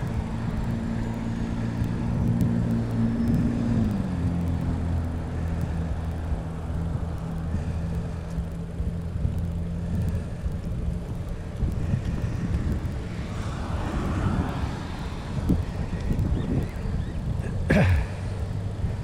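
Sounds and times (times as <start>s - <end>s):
bike tyre noise on asphalt: 0.0s - 19.0s
steady low hum: 0.0s - 19.0s
wind on microphone: 0.0s - 19.0s.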